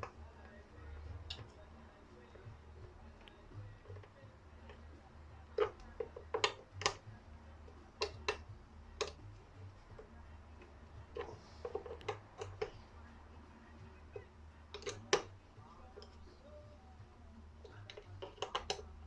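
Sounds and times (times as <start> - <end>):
hard parts clicking and knocking: 0.0 - 1.7, 2.3 - 13.0, 13.6 - 16.5, 17.5 - 19.0
faint low hum: 0.0 - 19.0.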